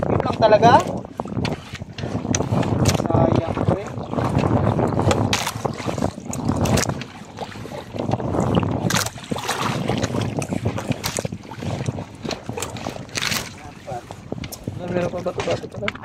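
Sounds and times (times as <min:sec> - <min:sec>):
water washing against boat: 0:00.0 - 0:16.0
wind buffeting microphone: 0:00.0 - 0:16.0.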